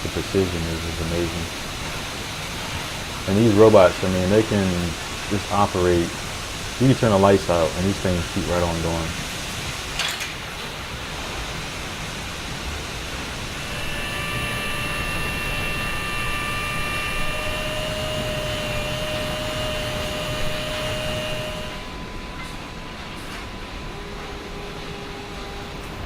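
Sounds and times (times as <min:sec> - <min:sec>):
high machine whine: 0:00.0 - 0:09.9, 0:11.0 - 0:26.0
factory noise roar: 0:00.0 - 0:26.0.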